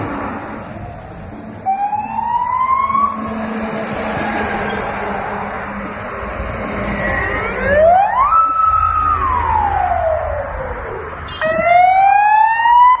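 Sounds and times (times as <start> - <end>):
emergency vehicle sirens wailing: 0.0 - 13.0
traffic rumble: 0.0 - 13.0.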